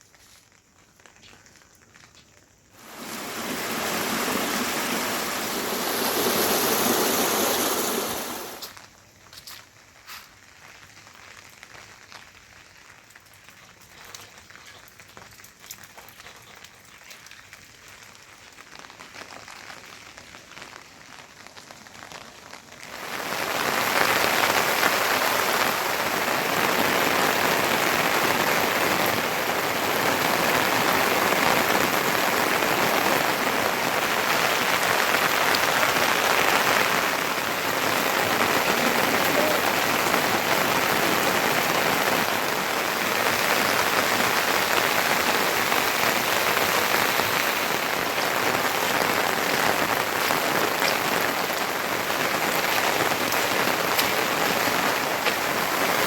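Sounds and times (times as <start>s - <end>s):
heavy rain hiss: 0.0s - 14.8s, 17.4s - 56.0s
light rain with drips: 0.0s - 56.0s.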